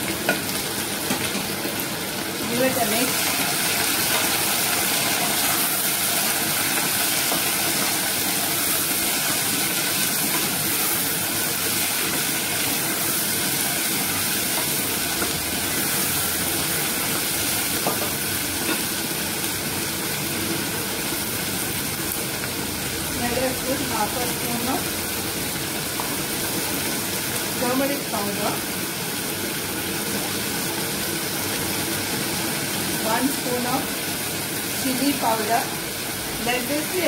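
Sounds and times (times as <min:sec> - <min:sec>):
potatoes and onions sizzling in oil: 0:00.0 - 0:37.0.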